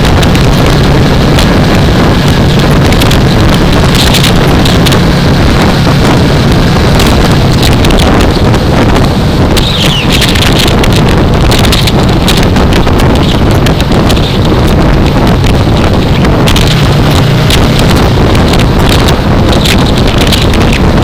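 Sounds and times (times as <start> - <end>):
motorcycle engine hum: 0.0 - 21.0
wind rushing over microphone: 0.0 - 21.0.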